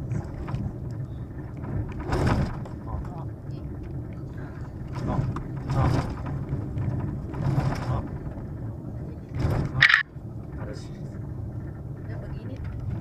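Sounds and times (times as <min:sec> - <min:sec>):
car rattling over gravel: 0:00.0 - 0:13.0
engine and tyres droning: 0:00.0 - 0:13.0.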